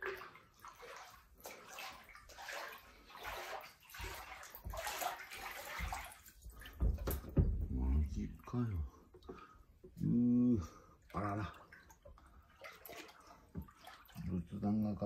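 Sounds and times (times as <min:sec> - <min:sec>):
water sloshing from wading: 0:00.0 - 0:15.0.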